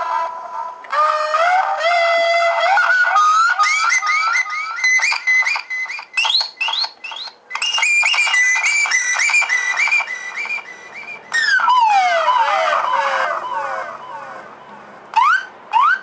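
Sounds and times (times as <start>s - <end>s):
looped whistle notes with echo: 1.0s - 14.5s.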